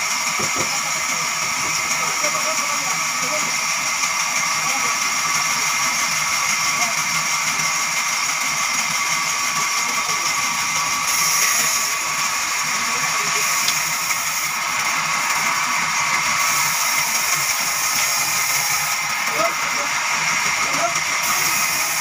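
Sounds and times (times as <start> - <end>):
band saw whining through log: 0.0 - 22.0.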